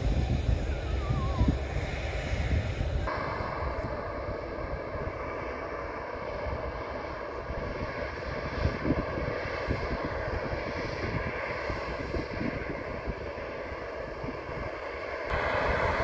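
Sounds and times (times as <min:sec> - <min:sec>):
distant airliner rumble: 0:00.0 - 0:16.0
jet engine whine: 0:00.0 - 0:16.0.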